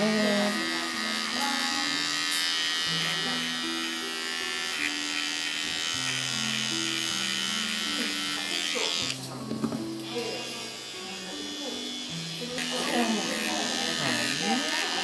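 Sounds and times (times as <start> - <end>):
electric pet clippers humming: 0.0 - 15.0
slow background music: 0.0 - 15.0.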